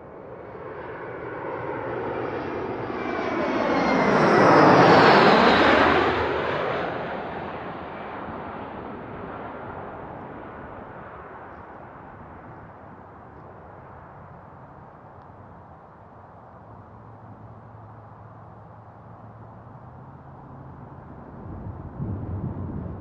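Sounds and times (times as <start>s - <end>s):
jet engines flying over: 0.0s - 23.0s.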